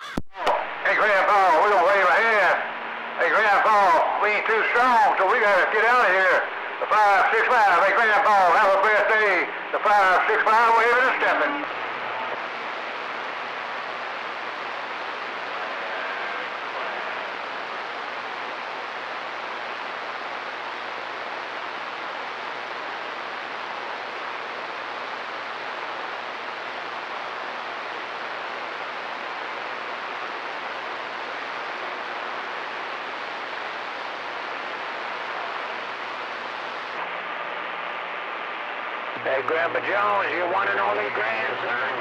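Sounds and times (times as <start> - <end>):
radio static hiss: 0.0 - 42.0
faint low hum: 0.4 - 42.0.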